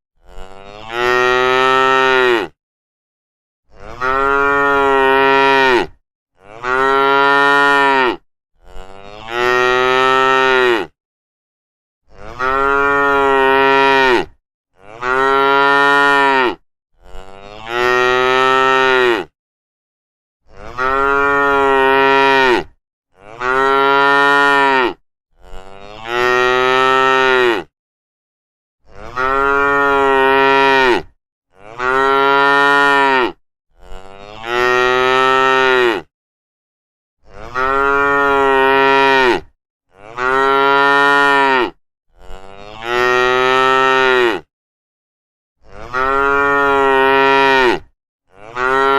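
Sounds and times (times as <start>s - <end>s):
cattle mooing: 0.2s - 2.6s, 3.8s - 10.9s, 12.1s - 19.3s, 20.6s - 27.7s, 29.0s - 36.1s, 37.4s - 44.5s, 45.6s - 48.9s.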